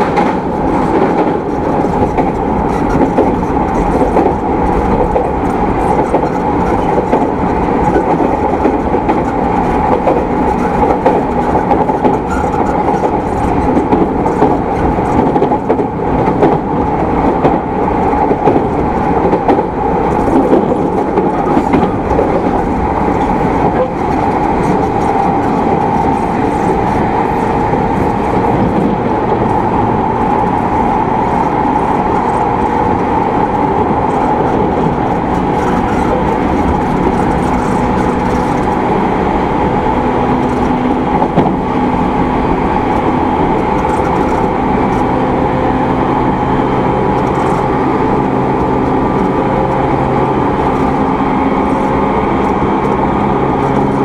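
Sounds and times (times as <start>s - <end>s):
track clatter: 0.0s - 54.0s
train wheels on rail: 0.0s - 54.0s.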